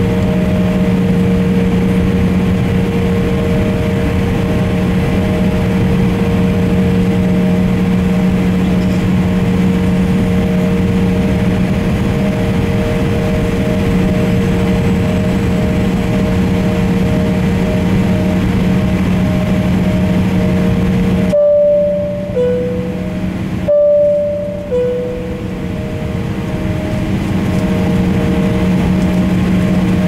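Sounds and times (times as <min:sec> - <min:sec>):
jet engines idling drone: 0:00.0 - 0:30.0.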